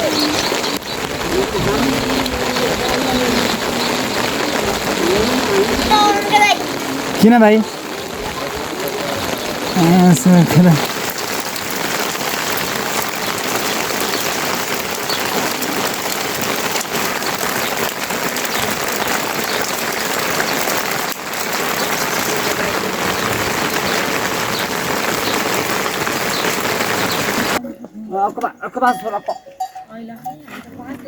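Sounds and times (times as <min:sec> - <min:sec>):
heavy rain falling: 0:00.0 - 0:27.6.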